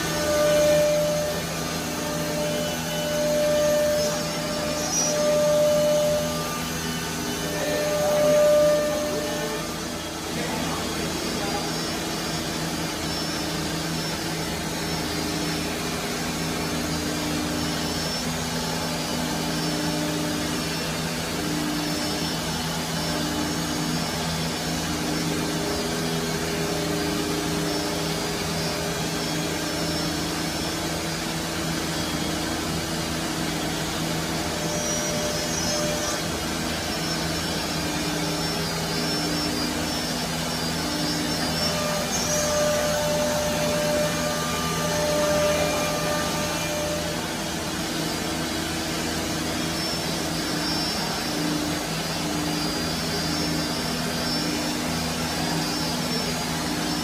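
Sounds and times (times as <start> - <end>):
router spindle hum: 0.0 - 57.0.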